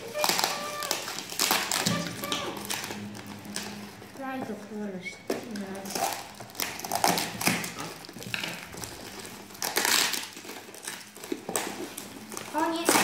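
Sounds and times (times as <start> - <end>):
scissors cutting packing tape: 0.0 - 3.9, 5.5 - 13.0
tape and plastic ripping and crinkling: 0.0 - 4.3, 5.2 - 13.0.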